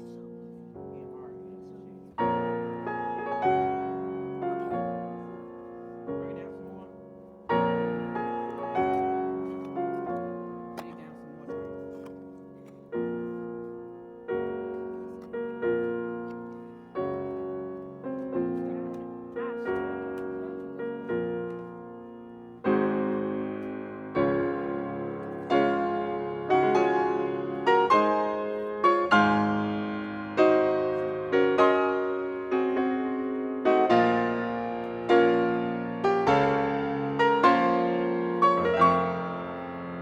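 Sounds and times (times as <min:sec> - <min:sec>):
slow gentle piano music: 0:00.0 - 0:40.0.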